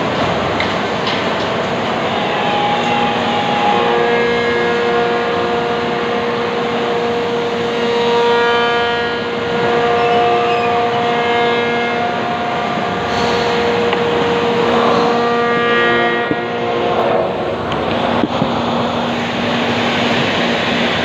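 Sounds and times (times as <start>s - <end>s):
woodworking machinery drone: 0.0s - 21.0s.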